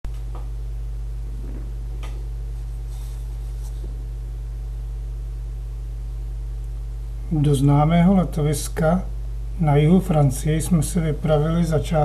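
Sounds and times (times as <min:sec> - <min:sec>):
low hum: 0:00.1 - 0:12.0.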